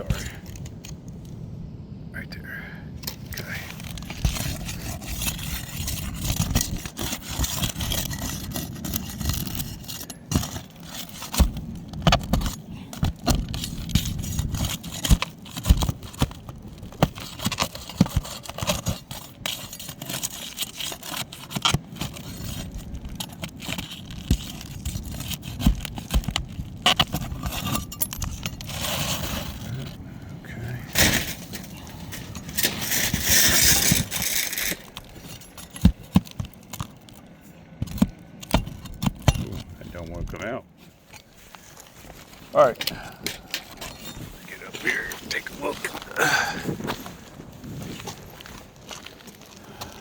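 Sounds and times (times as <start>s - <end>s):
pry bar scraping roof shingles: 3.1s - 30.1s, 30.8s - 50.0s.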